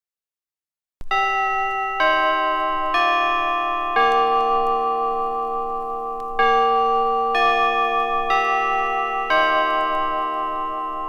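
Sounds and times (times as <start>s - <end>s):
clock chime bell melody: 1.1s - 11.0s.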